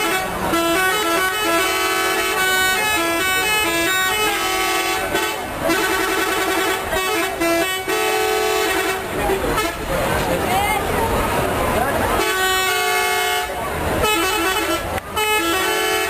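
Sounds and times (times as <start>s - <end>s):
bus musical horn tune: 0.0s - 9.9s, 12.2s - 16.0s.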